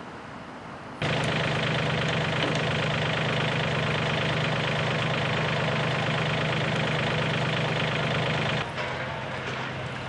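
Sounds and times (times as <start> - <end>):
engine humming steadily: 0.6 - 10.0.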